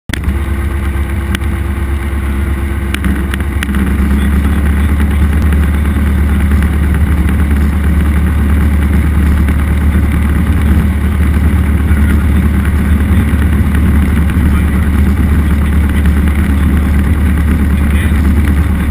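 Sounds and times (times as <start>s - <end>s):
airplane engine drone in cabin: 0.1s - 18.9s.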